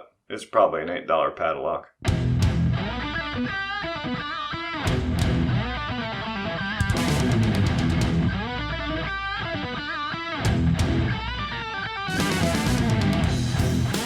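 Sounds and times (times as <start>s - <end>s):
electric guitar rock music: 2.0s - 14.0s.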